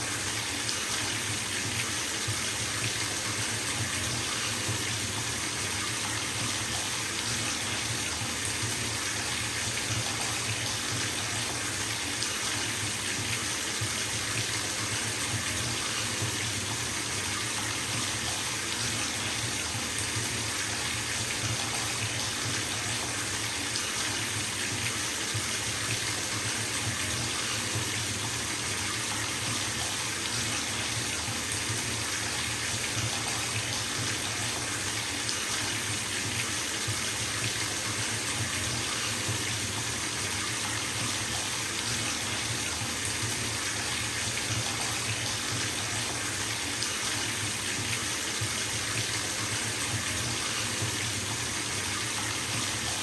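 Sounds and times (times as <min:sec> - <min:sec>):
water pouring into bathtub: 0:00.0 - 0:53.0.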